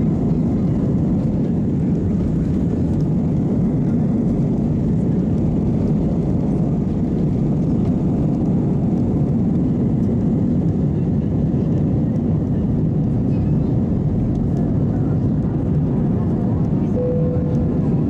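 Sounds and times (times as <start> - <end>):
aircraft rolling on runway: 0.0 - 18.0
jet engines at takeoff thrust: 0.0 - 18.0.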